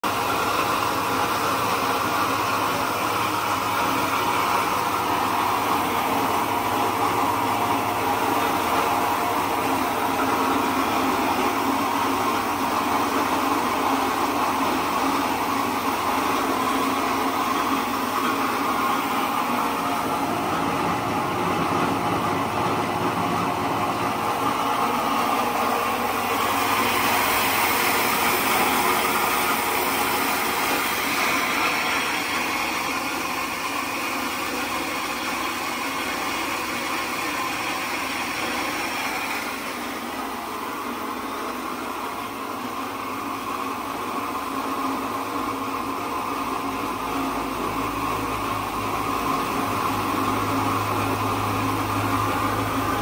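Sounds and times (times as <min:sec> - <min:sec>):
electric rice mill running: 0:00.0 - 0:53.0.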